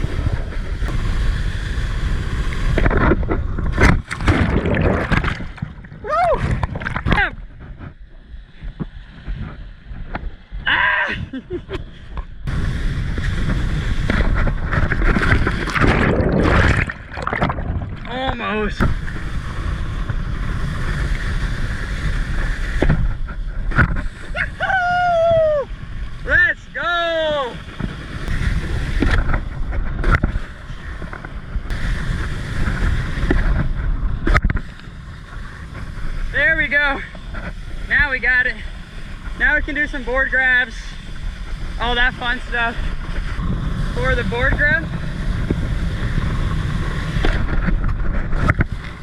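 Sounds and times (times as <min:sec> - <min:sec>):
water rushing: 0:00.0 - 0:07.7, 0:12.5 - 0:49.0
wind buffeting microphone: 0:00.0 - 0:49.0.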